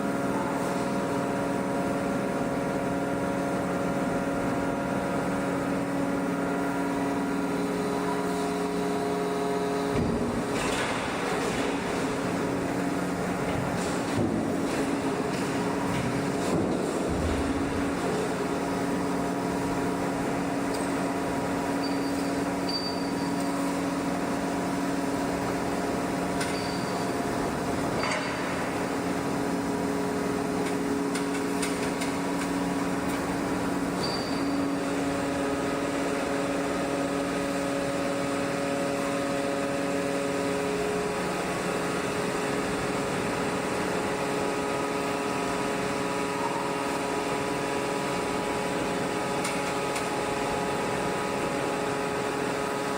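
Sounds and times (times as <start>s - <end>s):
heavy machinery hum: 0.0s - 52.9s.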